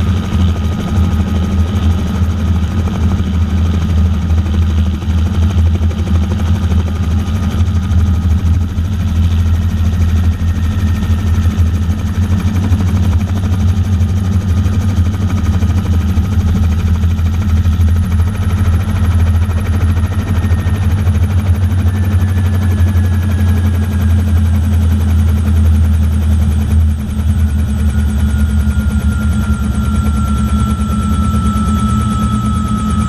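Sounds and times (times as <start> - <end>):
helicopter rotor chopping: 0.0 - 33.0.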